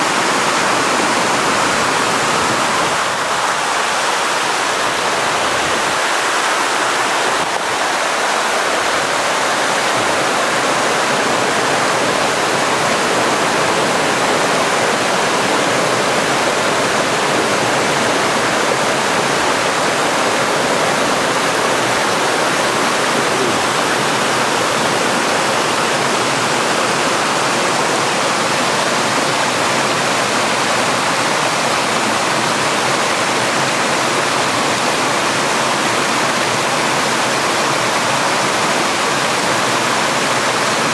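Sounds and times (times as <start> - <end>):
stream rushing over boulders: 0.0 - 40.9.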